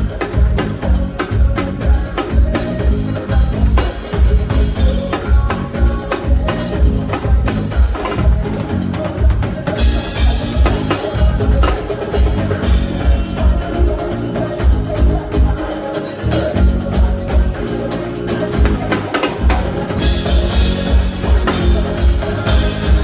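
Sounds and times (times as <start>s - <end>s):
bass line: 0.0s - 23.0s
live band playing: 0.0s - 23.0s.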